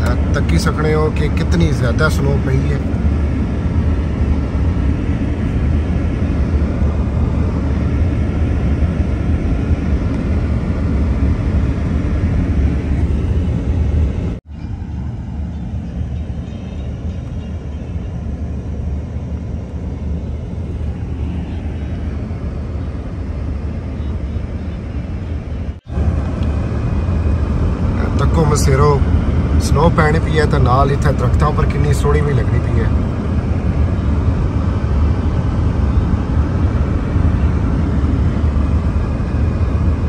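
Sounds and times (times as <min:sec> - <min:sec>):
car engine and tyre rumble: 0:00.0 - 0:40.0.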